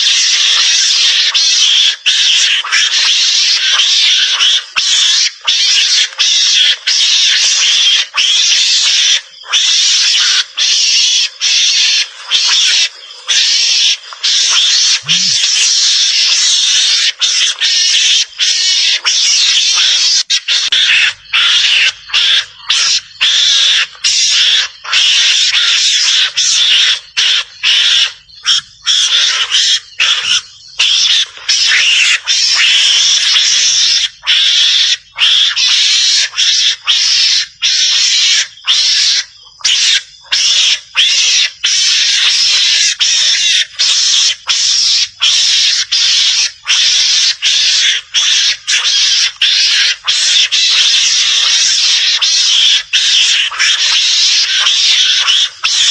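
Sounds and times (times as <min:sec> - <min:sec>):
mongoose chattering screams: 0:00.0 - 0:55.9.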